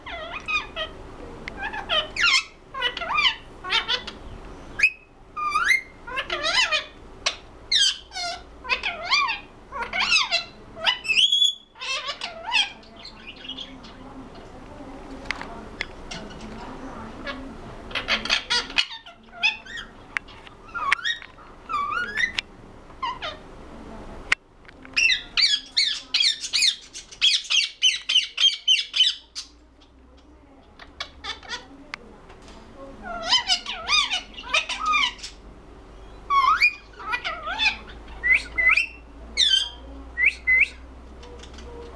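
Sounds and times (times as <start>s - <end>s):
parrot talking: 0.0s - 23.4s, 25.0s - 29.9s, 30.7s - 31.9s, 32.5s - 41.9s.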